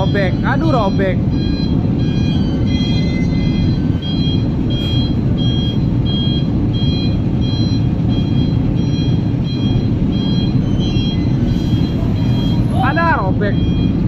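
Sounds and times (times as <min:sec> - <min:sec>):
heavy truck engines running: 0:00.0 - 0:14.0
truck reversing alarm beeping: 0:00.0 - 0:14.0.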